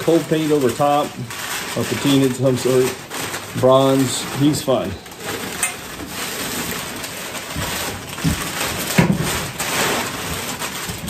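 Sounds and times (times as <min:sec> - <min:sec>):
packing paper rustling: 0:00.0 - 0:11.0.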